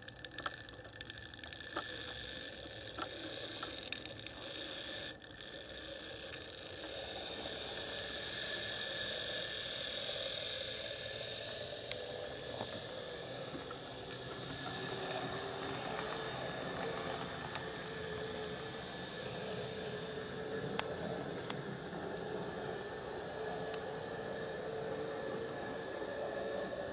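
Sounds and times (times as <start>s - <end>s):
faint clicks of wheels on track: 0.0s - 22.8s, 23.5s - 23.9s
model locomotive motor whine: 0.0s - 26.9s.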